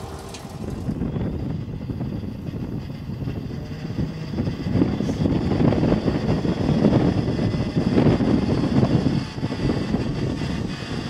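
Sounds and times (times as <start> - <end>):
propeller plane engine running: 0.0 - 11.0.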